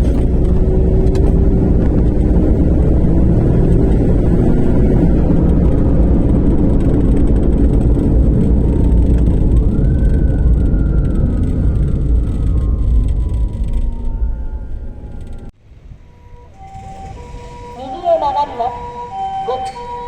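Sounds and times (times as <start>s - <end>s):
fire engine rumbling: 0.0s - 20.0s
road noise: 0.0s - 20.0s
wailing fire engine siren: 0.0s - 20.0s.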